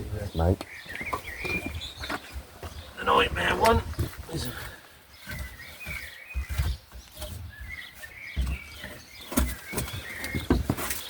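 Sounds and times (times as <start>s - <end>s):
small bird chirping: 0.2s - 3.3s, 5.1s - 11.0s.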